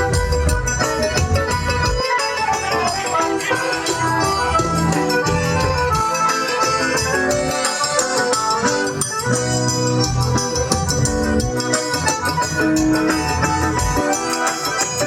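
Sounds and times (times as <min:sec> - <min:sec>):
accordion playing: 0:00.0 - 0:15.0
bass drum and percussion beat: 0:00.0 - 0:15.0.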